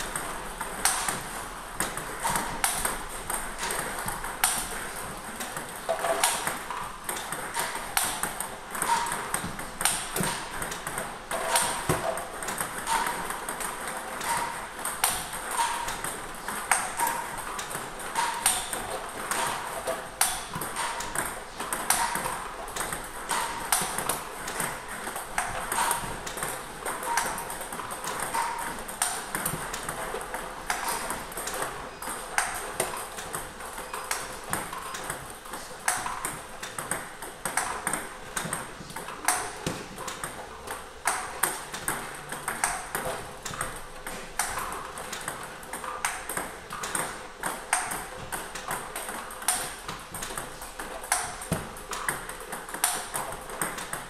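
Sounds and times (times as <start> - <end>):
table tennis ball ticks: 0.0 - 54.0
racket hitting ball: 0.1 - 54.0.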